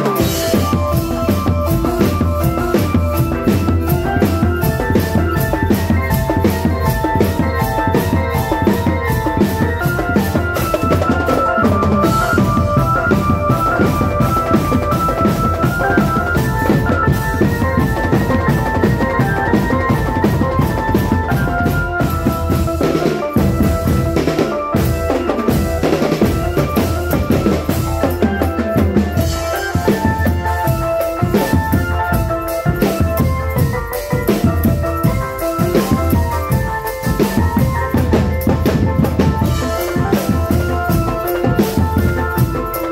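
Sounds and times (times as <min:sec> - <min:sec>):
bass and snare drumming: 0:00.0 - 0:42.9
melody line: 0:00.0 - 0:42.9.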